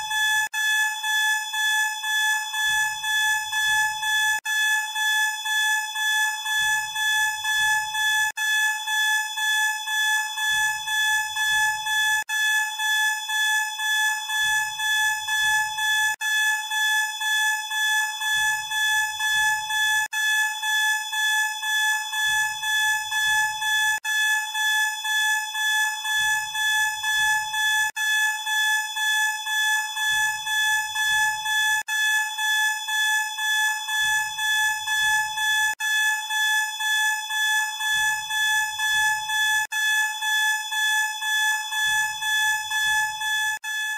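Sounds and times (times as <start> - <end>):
pulsing fire alarm tone: 0.0 - 43.9.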